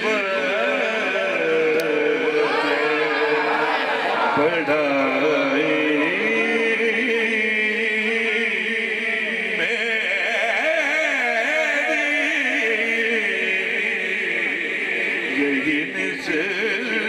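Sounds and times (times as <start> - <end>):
man chanting over loudspeakers: 0.0 - 17.0.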